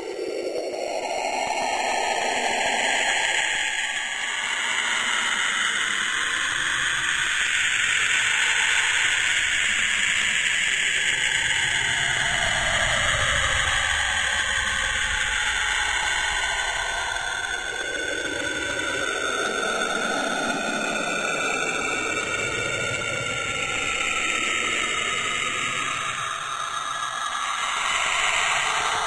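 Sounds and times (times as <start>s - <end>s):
hissing wash with drifting pitch: 0.0s - 29.0s.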